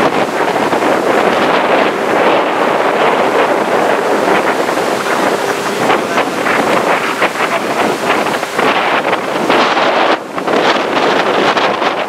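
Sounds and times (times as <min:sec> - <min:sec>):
strong wind on microphone: 0:00.0 - 0:12.0
wind gusts buffeting: 0:00.0 - 0:12.0.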